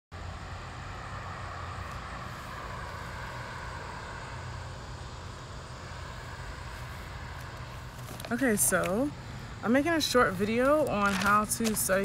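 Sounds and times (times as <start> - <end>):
road traffic hum: 0.1 - 12.0.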